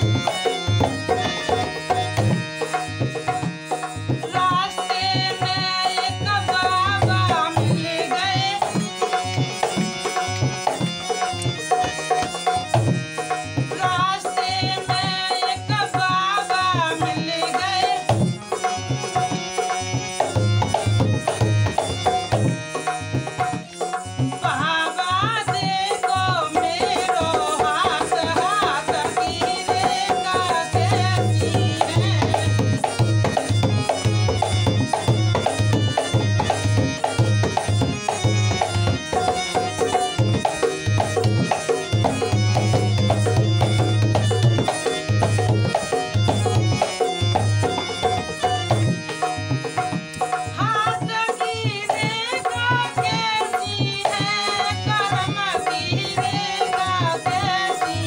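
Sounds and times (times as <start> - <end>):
dholak drum rhythm: 0.0 - 58.0
harmonium melody and drone: 0.0 - 58.0.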